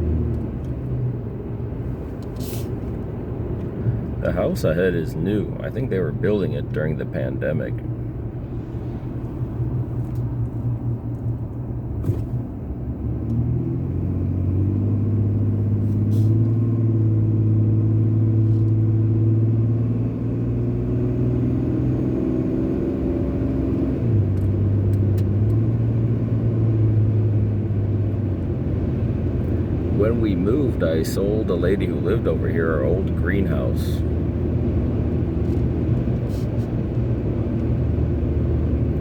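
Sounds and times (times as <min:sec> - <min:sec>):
car engine hum: 0:00.0 - 0:39.0
tyre and road noise: 0:00.0 - 0:39.0.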